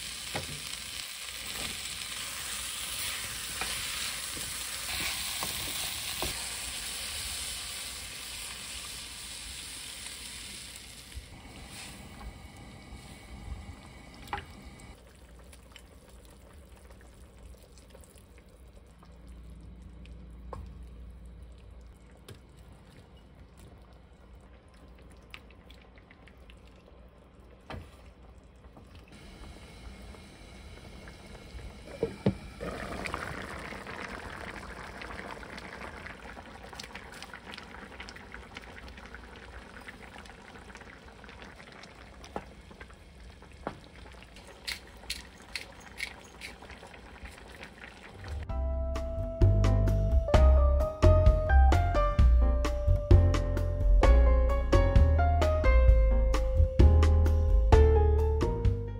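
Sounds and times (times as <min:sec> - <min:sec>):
stew bubbling in a pan: 0:00.0 - 0:48.5.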